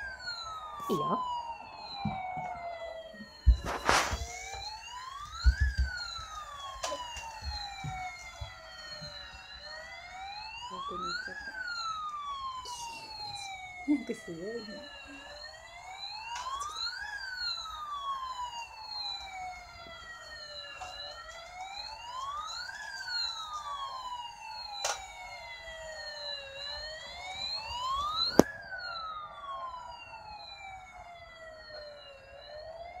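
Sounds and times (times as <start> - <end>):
toy fire truck siren wailing: 0.0 - 33.0.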